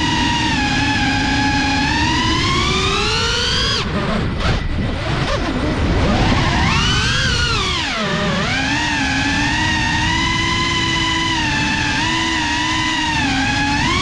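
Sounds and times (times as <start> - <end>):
drone motors whining: 0.0 - 14.0
wind rumble on microphone: 0.0 - 14.0.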